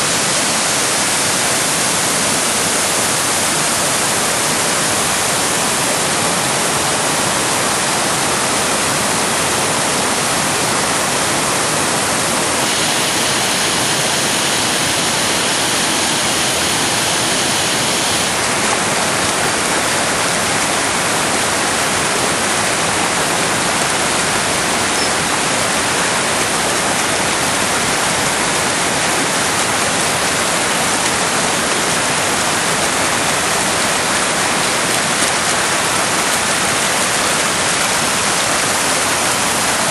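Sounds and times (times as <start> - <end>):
white water rushing over rock: 0.0 - 39.9.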